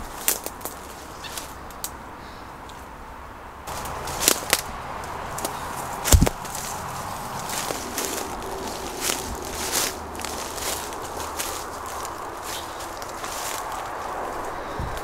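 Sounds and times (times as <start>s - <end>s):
footsteps through undergrowth: 0.0s - 1.9s, 3.7s - 15.0s
twigs snapping: 0.1s - 2.0s, 3.7s - 15.0s.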